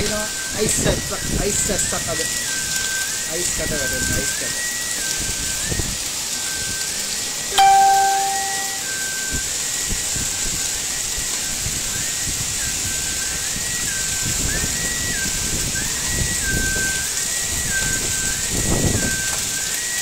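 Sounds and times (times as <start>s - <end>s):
heavy rain and hail: 0.0s - 20.0s.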